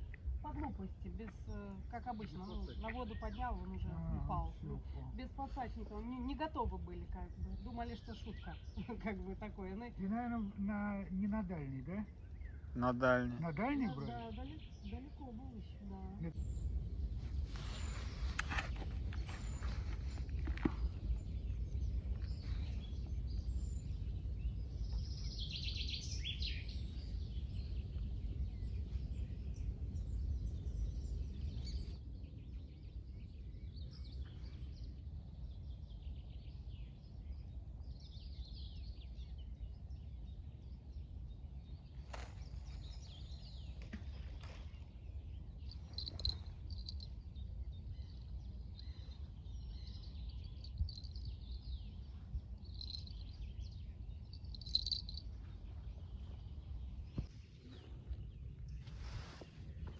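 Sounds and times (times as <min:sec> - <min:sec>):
small birds chirping: 0:00.0 - 0:59.9
steady low rumble: 0:00.0 - 0:59.9.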